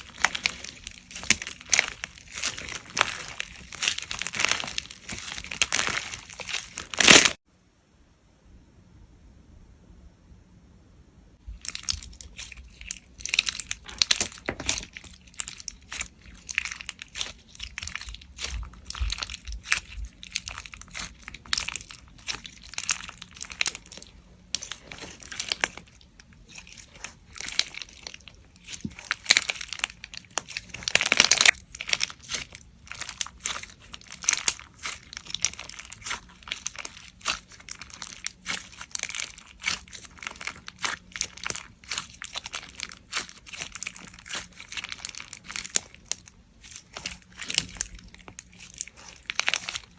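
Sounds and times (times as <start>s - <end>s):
slime squished crackling and popping: 0.0s - 7.4s, 11.5s - 49.9s.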